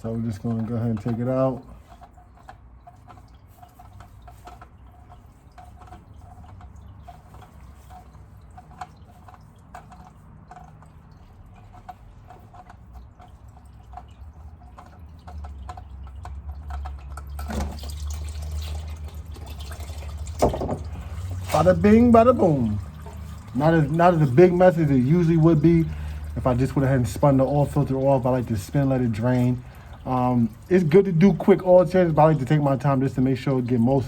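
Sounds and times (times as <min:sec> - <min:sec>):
oil dripping into drain pan: 0:00.0 - 0:34.0.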